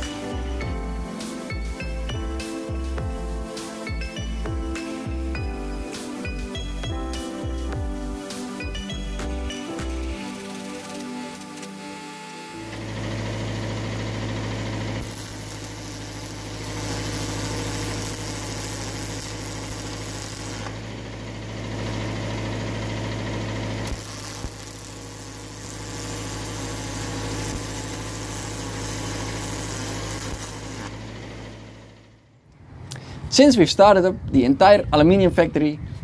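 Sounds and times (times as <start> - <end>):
welding arc hissing: 0.0 - 21.0, 23.3 - 32.0
welder humming: 0.0 - 32.2.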